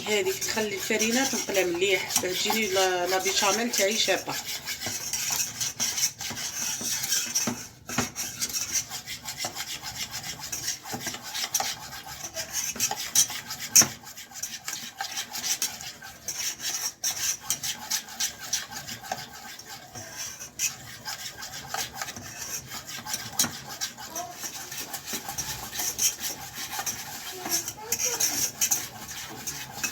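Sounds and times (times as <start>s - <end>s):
spoon scraping in a pan: 0.0s - 29.9s.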